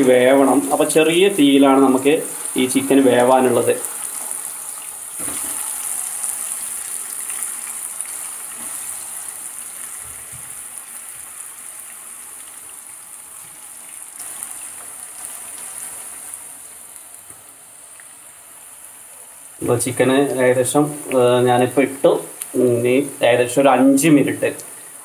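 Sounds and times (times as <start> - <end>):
oil sizzling and bubbling: 0.0 - 25.0.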